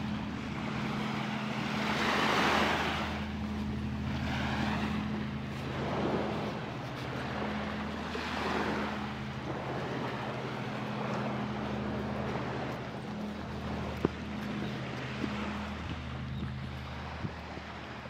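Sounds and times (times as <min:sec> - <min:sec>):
low engine hum: 0:00.0 - 0:18.0
waves washing on sandy beach: 0:00.0 - 0:18.0.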